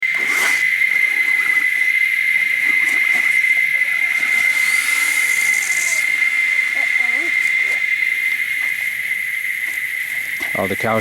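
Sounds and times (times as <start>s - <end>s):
background hiss: 0.0s - 11.0s
insects droning: 0.0s - 11.0s.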